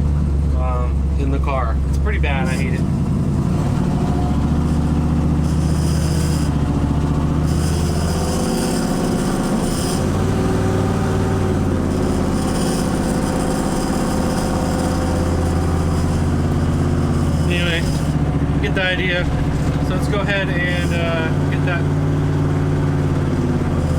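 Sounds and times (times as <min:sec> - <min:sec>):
car engine running: 0:00.0 - 0:23.9
metallic ting and rattle: 0:04.2 - 0:23.9.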